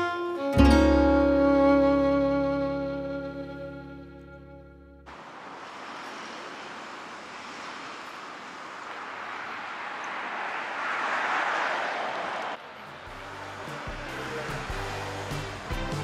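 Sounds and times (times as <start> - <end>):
distant traffic hiss: 0.0 - 16.0.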